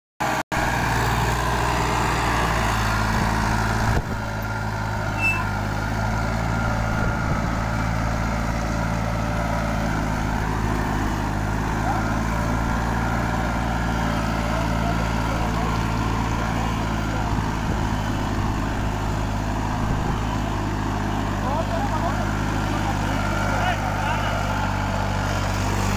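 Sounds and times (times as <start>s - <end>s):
tractor engine under load: 0.2s - 25.9s.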